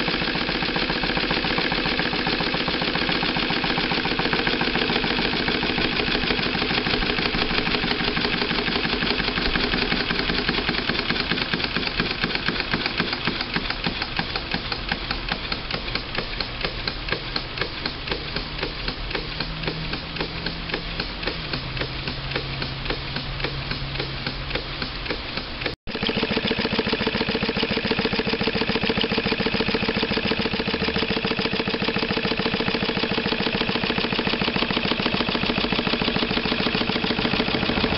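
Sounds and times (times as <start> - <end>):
model engine clattering: 0.0 - 37.9.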